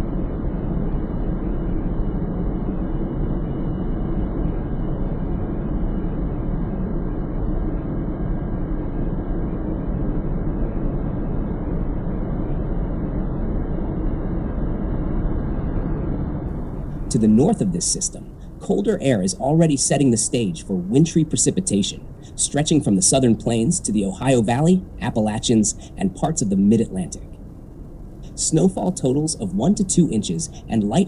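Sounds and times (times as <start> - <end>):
steady low rumbling: 0.0 - 31.0.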